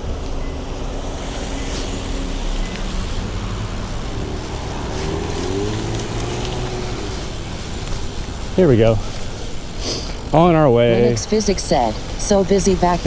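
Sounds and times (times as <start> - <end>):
traffic engines rumbling: 0.0 - 13.0
vehicle accelerating: 0.0 - 13.0.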